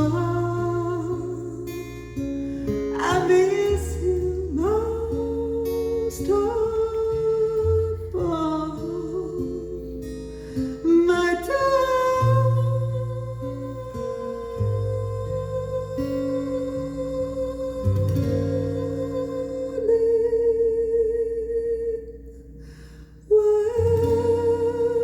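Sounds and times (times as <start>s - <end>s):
woman singing: 0.0s - 22.6s, 23.2s - 25.0s
acoustic guitar: 0.0s - 25.0s.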